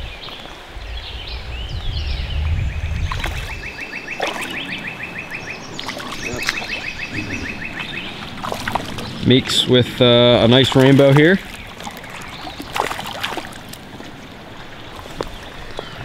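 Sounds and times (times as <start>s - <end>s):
birds chirping: 0.0s - 16.0s
creek water running: 0.0s - 16.0s.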